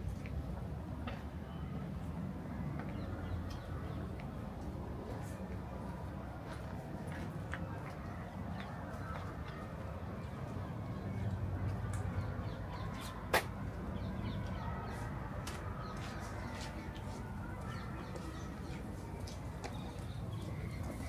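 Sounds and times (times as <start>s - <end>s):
distant city hum: 0.0s - 21.0s.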